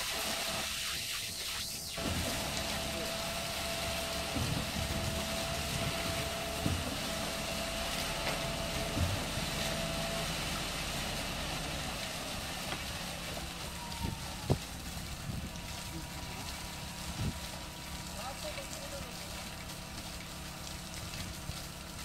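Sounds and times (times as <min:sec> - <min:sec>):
concrete pump truck running: 0:00.0 - 0:01.1, 0:02.0 - 0:22.0.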